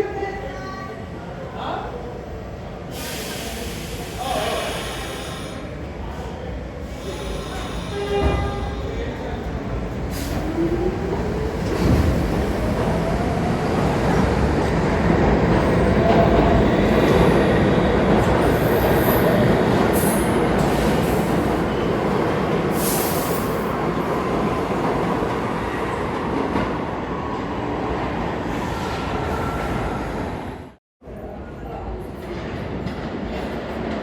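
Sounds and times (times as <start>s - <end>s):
subway train motors whining: 0.0s - 33.3s.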